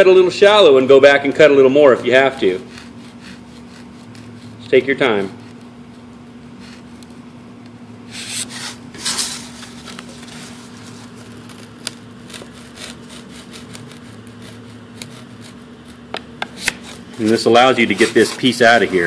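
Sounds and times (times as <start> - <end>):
knife blade sawing through foam: 1.9 - 7.0, 8.1 - 19.0.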